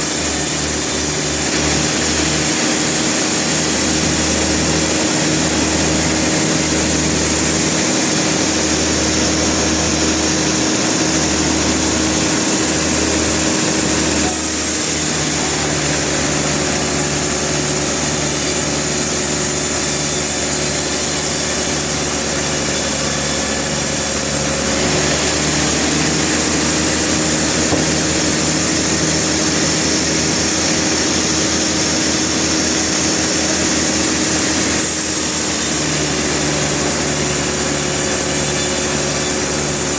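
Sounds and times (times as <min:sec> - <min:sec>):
machine sawing: 0:00.0 - 0:39.9.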